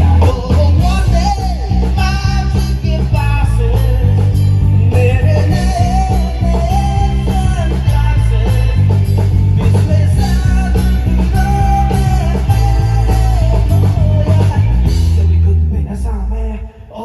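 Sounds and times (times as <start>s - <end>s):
bending melody line: 0.0s - 15.8s
live rock band playing: 0.0s - 17.0s.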